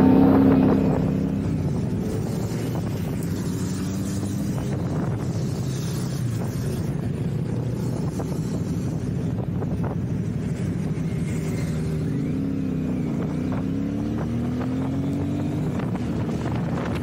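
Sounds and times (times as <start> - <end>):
motorcycle engine: 0.0 - 17.0
road and wind noise: 0.0 - 17.0.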